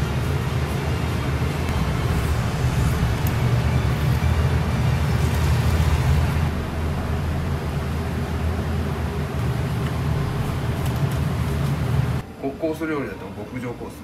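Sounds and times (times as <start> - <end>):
machinery humming: 0.0 - 12.6.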